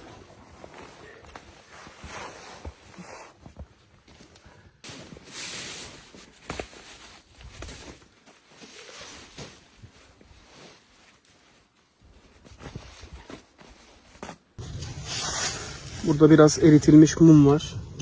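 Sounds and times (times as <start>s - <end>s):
crunches and rustles in snow: 0.0s - 14.6s.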